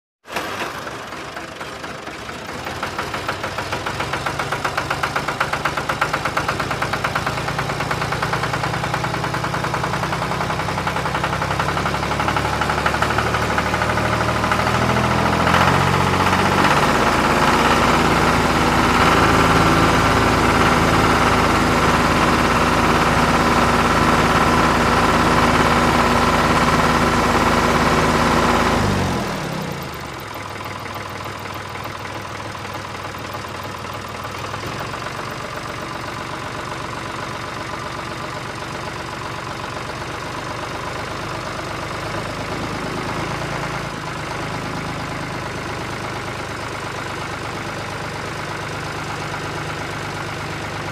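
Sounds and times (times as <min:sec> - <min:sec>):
tractor engine running: 0:00.3 - 0:50.9.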